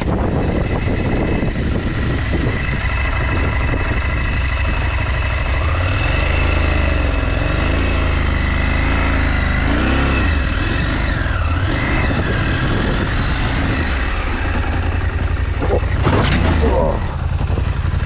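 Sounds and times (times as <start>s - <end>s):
motorcycle engine running: 0.0s - 18.0s
steady low rumble: 0.0s - 18.0s.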